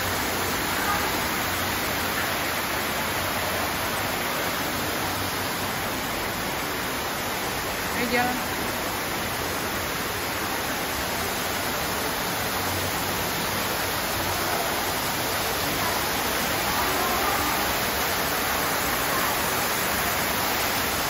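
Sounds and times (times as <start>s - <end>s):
waterfall pouring into pool: 0.0s - 21.0s.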